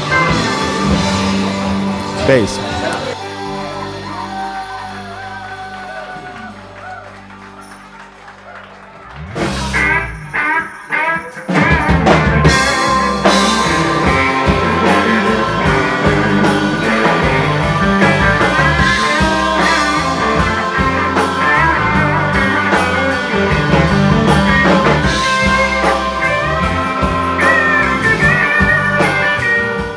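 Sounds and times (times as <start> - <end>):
drum kit: 0.0 - 8.2, 9.1 - 29.9
electric guitar: 0.0 - 29.9.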